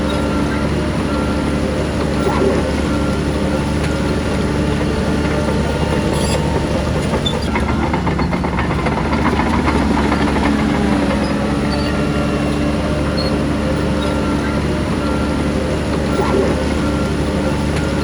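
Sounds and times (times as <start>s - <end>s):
bulldozer diesel engine humming: 0.0s - 18.0s
steel tracks rattling: 0.0s - 18.0s.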